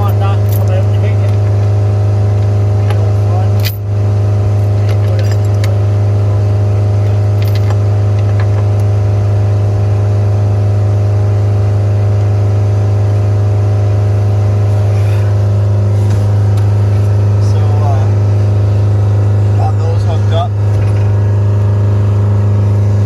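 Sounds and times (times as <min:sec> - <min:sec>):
skid steer engine running: 0:00.0 - 0:23.0.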